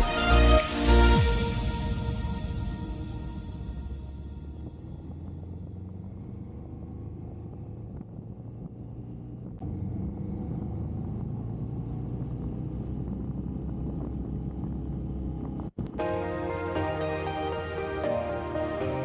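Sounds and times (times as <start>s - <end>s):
motorcycle engine rumble: 1.1s - 19.0s.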